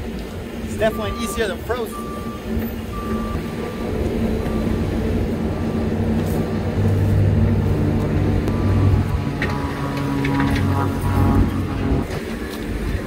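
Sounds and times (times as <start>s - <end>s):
vehicle engine running: 2.0s - 13.0s.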